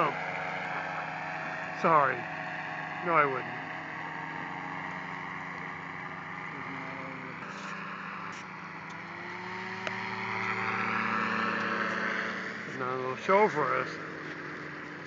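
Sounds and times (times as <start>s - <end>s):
motor engine droning: 0.0s - 15.0s.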